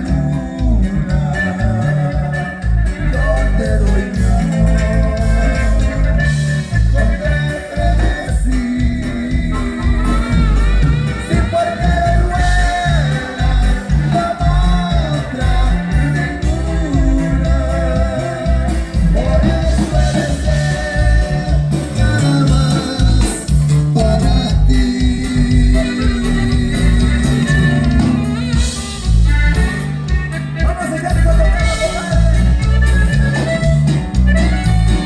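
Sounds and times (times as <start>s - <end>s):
band music with singer: 0.0s - 35.0s.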